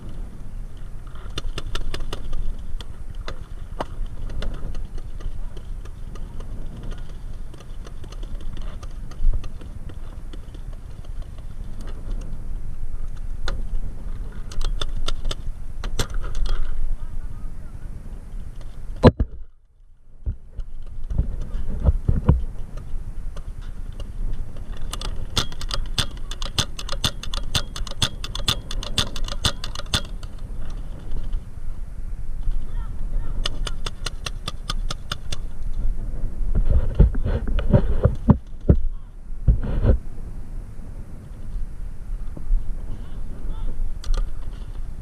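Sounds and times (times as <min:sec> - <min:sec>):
microphone handling rumble: 0:00.0 - 0:45.0.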